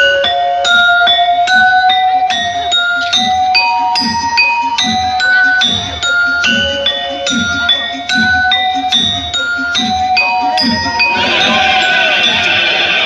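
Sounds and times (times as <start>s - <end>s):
keyboard melody over bass beat: 0.0s - 13.0s.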